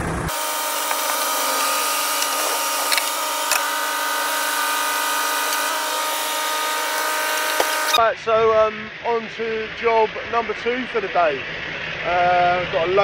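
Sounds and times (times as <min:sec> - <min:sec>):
steady mechanical whine: 0:00.0 - 0:13.0.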